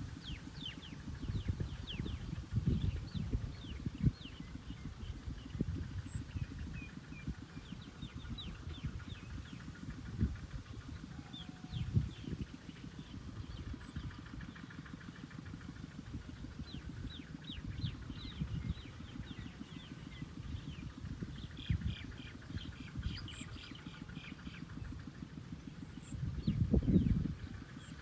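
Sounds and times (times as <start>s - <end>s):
low pulsing rumble: 0.0s - 28.0s
birds chirping: 0.1s - 28.0s.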